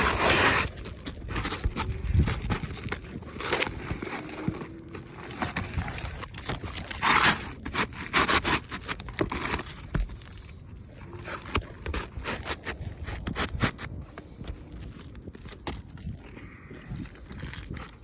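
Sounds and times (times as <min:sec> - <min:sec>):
shingles scraping and crackling: 0:00.0 - 0:18.0.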